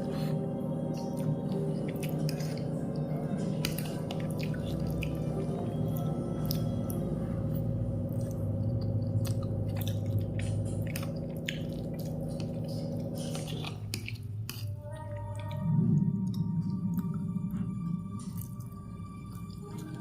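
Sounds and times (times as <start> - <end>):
person chewing: 0.0 - 20.0
steady low hum: 0.0 - 20.0.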